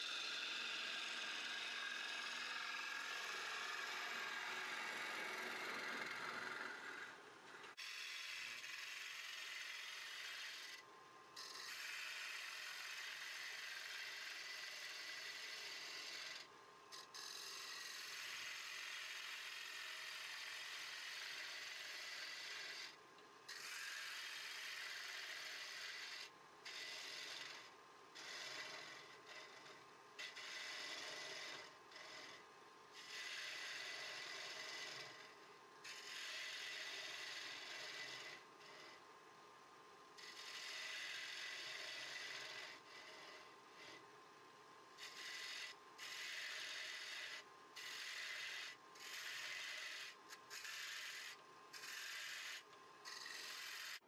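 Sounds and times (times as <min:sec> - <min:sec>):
gouge hissing on spinning wood: 0:00.0 - 0:10.8, 0:11.4 - 0:32.4, 0:33.0 - 0:39.0, 0:40.2 - 0:44.0, 0:45.0 - 0:54.0.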